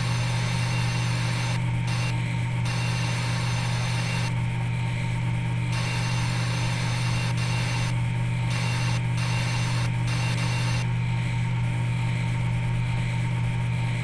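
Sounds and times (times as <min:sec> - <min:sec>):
milling machine spindle hum: 0:00.0 - 0:14.0.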